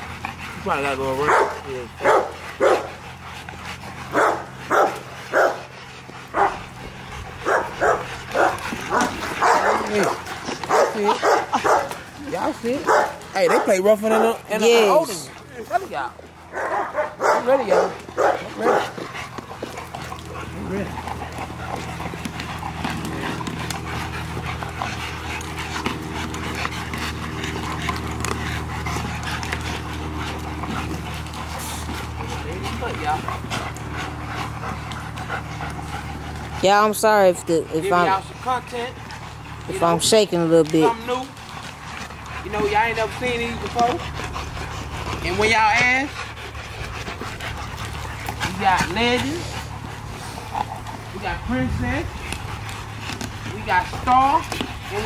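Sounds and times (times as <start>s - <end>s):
dogs barking in play: 0.0s - 55.0s
paws scuffing and clicking: 0.0s - 55.0s
steady low hum: 0.0s - 55.0s.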